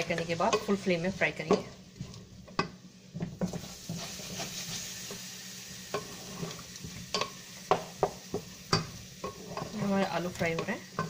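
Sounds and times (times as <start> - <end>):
potatoes sizzling in hot oil: 0.0 - 11.0
spatula scraping and knocking pot: 1.4 - 5.2, 5.9 - 11.0.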